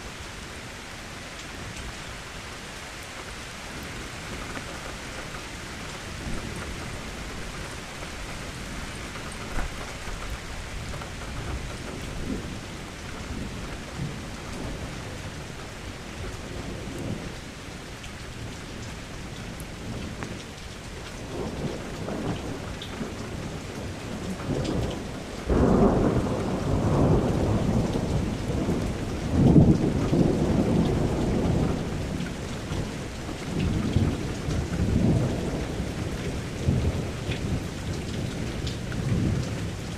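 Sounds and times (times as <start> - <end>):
steady rain falling: 0.0 - 39.9
thunder rumbling: 3.7 - 17.5, 21.2 - 39.9.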